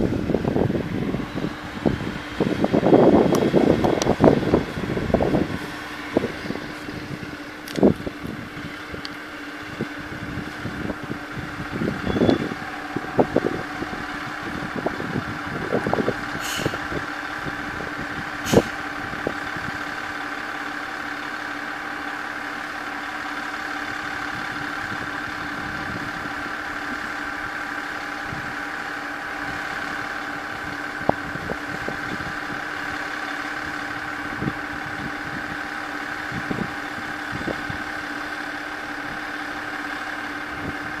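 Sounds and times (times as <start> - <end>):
diesel engine idling hum: 0.0 - 41.0.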